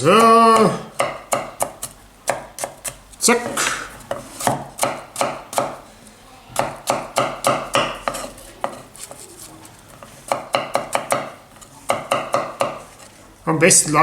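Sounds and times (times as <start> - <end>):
kitchen knife chopping onion: 0.0 - 5.8, 6.6 - 13.1.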